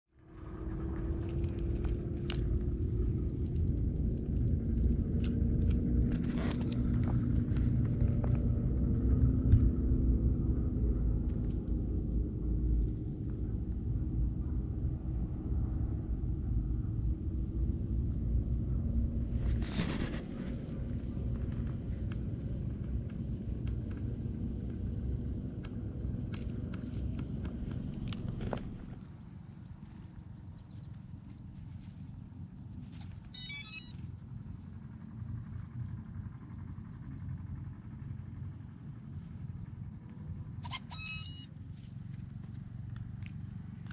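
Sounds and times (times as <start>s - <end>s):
faint drone: 0.1s - 43.9s
low outdoor rumble: 0.2s - 43.9s.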